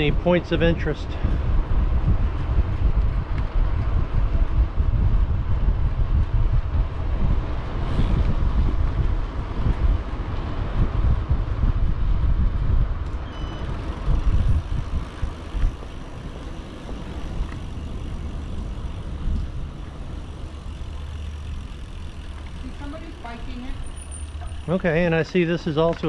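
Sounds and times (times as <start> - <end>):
bike rolling noise: 0.0 - 26.0
wind buffeting microphone: 0.0 - 26.0.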